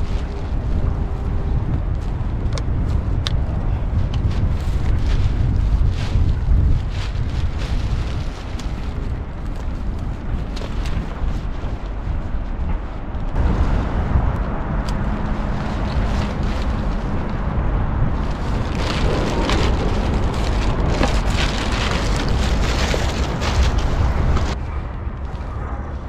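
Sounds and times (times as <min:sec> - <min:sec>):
rustling: 0:00.0 - 0:24.6
wind buffeting microphone: 0:00.0 - 0:26.0.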